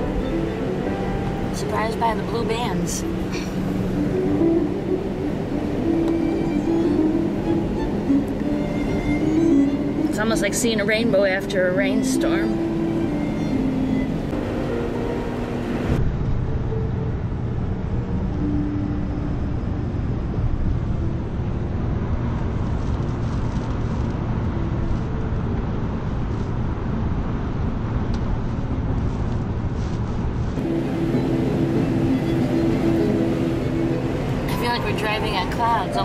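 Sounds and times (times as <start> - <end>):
car driving on highway: 0.0 - 36.0.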